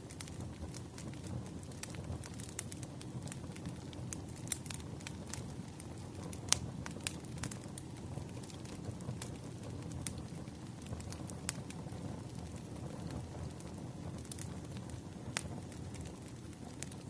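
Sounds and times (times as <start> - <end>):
crackles and pops of burning wood: 0.0 - 17.0
rumble of campfire flames: 0.0 - 17.0.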